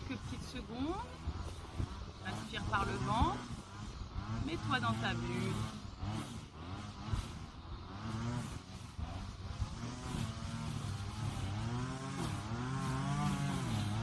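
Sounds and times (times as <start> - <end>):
engine humming with varying pitch: 0.0 - 14.0.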